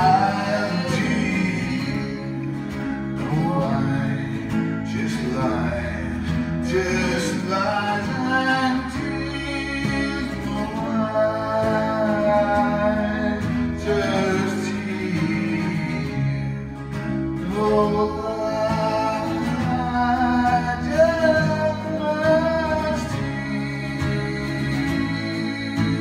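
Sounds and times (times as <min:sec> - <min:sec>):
guitar accompaniment: 0:00.0 - 0:26.0
person singing: 0:00.0 - 0:26.0.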